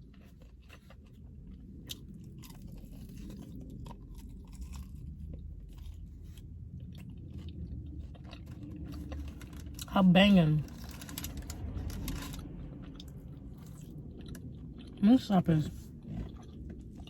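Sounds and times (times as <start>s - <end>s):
person chewing crunchy food: 0.0s - 9.9s, 10.6s - 17.0s.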